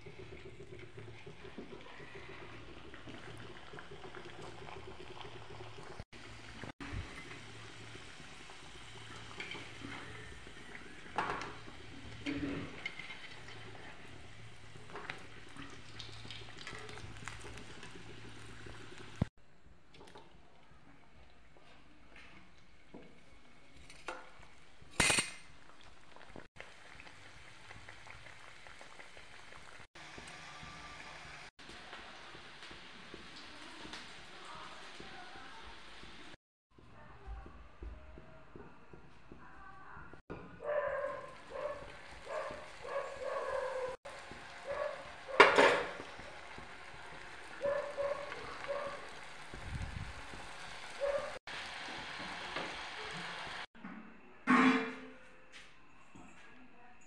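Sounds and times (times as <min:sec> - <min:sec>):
food deep-frying in hot oil: 0:00.0 - 0:19.3, 0:22.5 - 0:36.4, 0:41.2 - 0:53.7.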